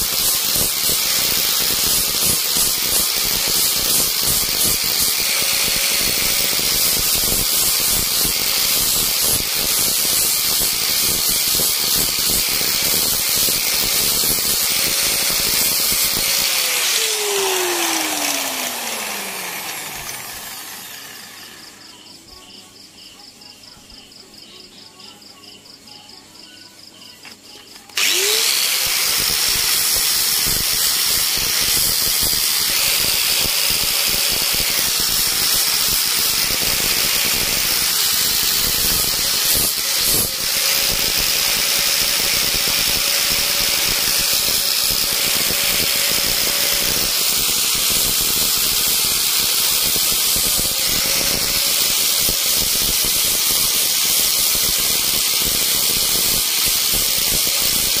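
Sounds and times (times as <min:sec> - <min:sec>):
power tool whining and grinding wood: 0:00.0 - 0:21.9, 0:27.9 - 0:58.0.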